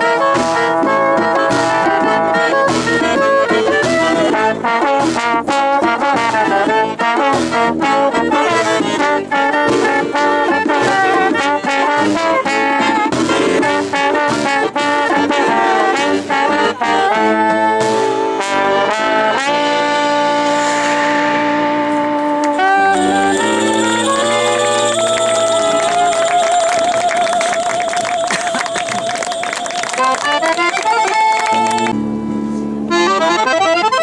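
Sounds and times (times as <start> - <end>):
brass band playing jazzy music: 0.0 - 32.0, 32.9 - 34.0
trombone: 0.0 - 32.0.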